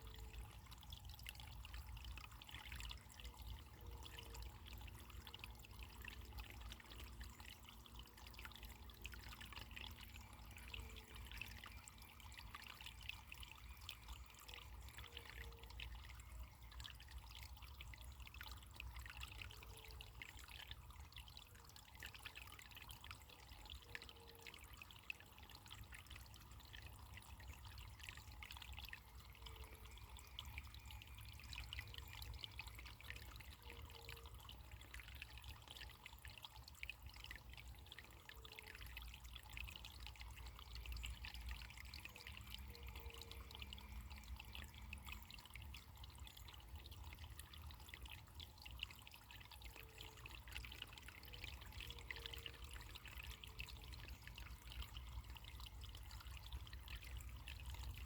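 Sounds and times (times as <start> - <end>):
water trickling and gurgling: 0.0 - 58.0.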